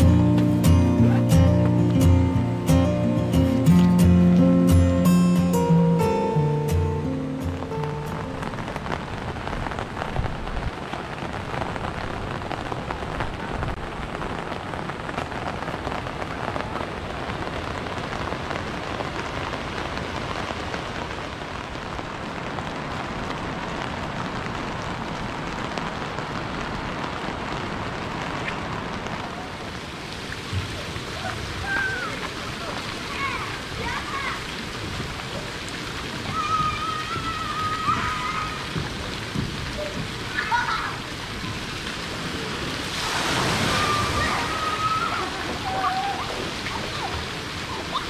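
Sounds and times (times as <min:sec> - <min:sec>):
steady rain falling: 0:00.0 - 0:48.0.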